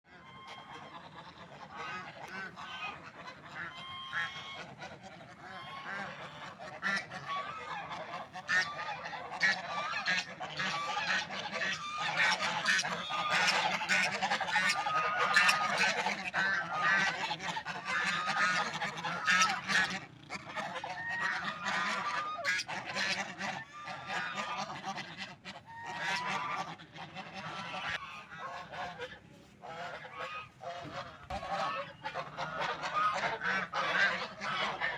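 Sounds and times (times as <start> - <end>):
ducks calling: 0.1 - 34.9.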